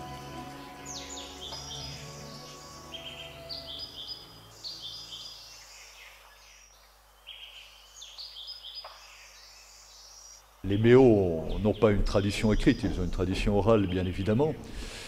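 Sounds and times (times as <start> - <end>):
birds chirping and singing: 0.0 - 14.9.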